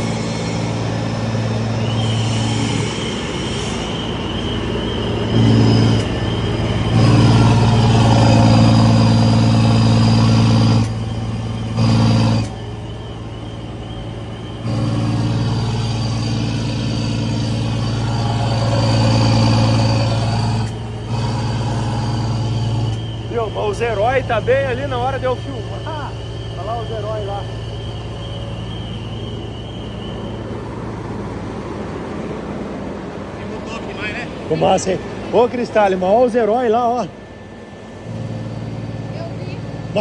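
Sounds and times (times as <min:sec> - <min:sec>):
truck diesel engine rumbling: 0:00.0 - 0:40.0.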